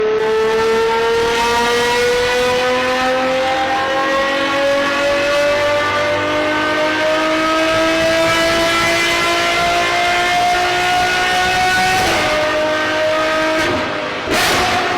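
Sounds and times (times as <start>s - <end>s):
car engine accelerating: 0.0s - 14.9s.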